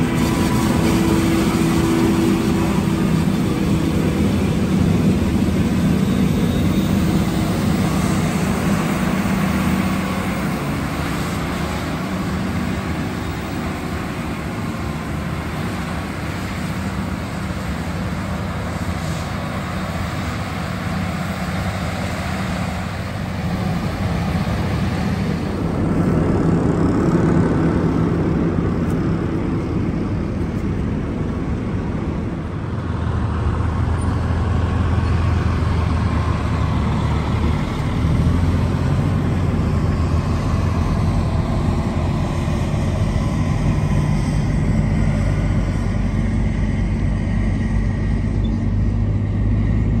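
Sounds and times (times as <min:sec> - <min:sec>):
low engine drone: 0:00.0 - 0:50.0.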